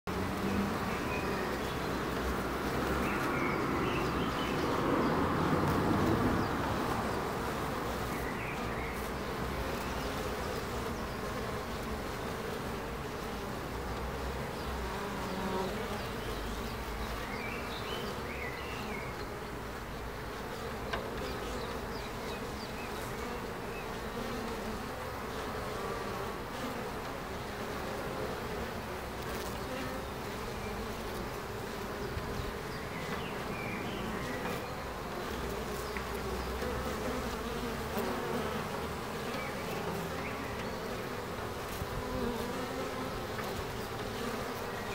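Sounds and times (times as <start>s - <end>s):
honeybees buzzing: 0.1s - 44.9s.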